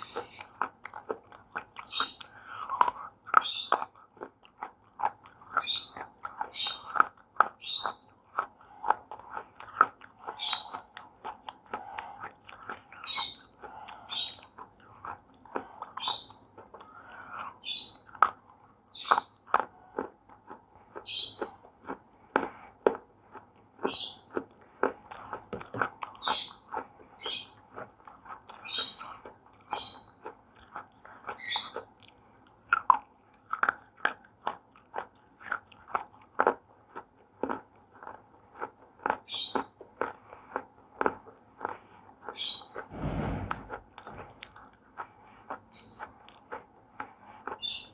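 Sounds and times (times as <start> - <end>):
slate pencils crunching in mouth: 0.0 - 42.9.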